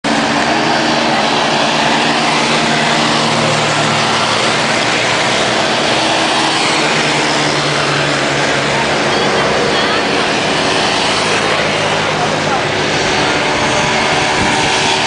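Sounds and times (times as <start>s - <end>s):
motorcycle engines running: 0.0s - 15.0s
rushing noise: 0.0s - 15.0s.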